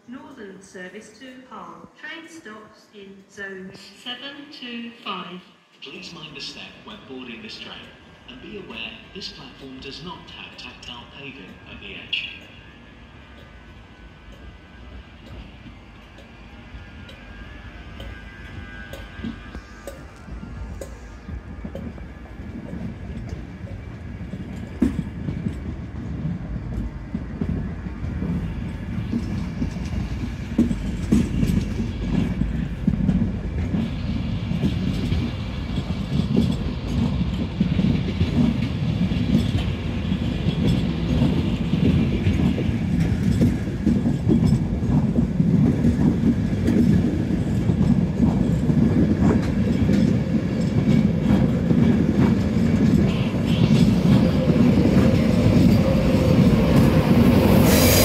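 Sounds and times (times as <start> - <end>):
train wheels rumbling on rails: 5.9 - 58.0
wheels clicking over rail joints: 7.4 - 20.2, 20.8 - 57.7.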